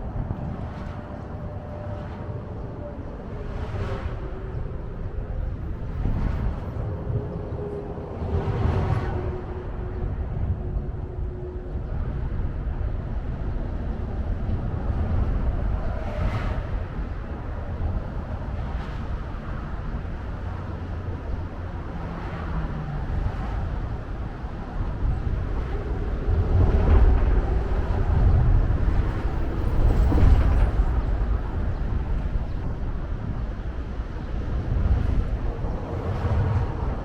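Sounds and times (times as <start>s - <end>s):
low uneven city rumble: 0.0s - 37.0s.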